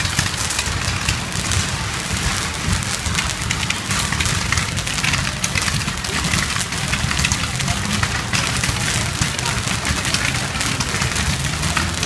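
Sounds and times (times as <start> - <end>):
fireworks crackling: 0.0 - 12.0
low rumble: 0.0 - 12.0.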